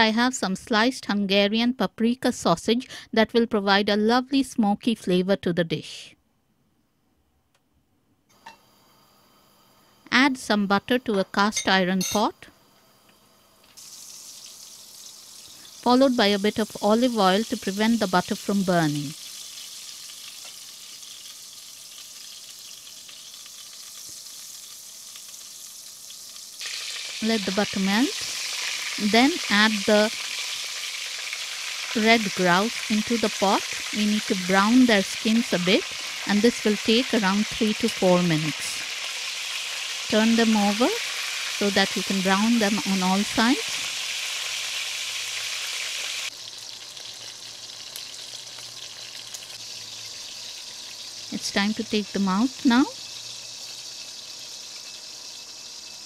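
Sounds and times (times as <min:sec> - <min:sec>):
butter and oil sizzling: 0:08.3 - 0:56.0.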